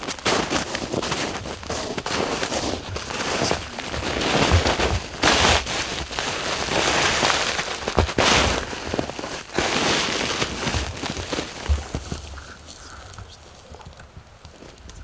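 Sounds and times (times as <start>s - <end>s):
footsteps crunching through snow: 0.0s - 13.8s.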